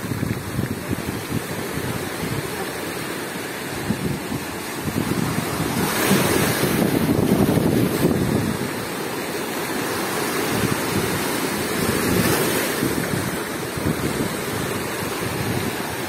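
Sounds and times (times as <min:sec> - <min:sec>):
wind buffeting microphone: 0:00.0 - 0:09.1, 0:09.9 - 0:16.0
waves washing over rock: 0:00.0 - 0:16.0.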